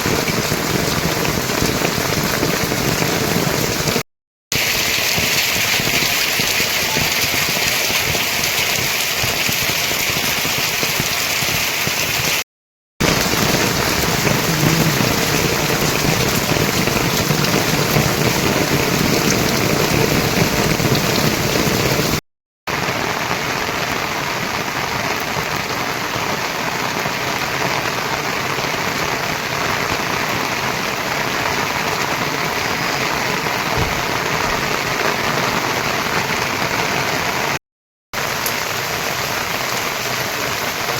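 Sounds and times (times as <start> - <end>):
rain falling: 0.0 - 12.4, 13.0 - 37.6, 38.2 - 40.9.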